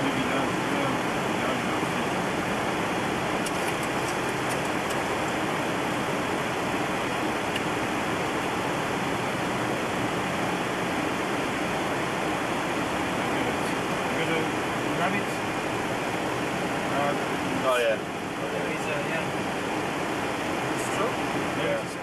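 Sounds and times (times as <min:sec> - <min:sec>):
aircraft cockpit roar: 0:00.0 - 0:22.0.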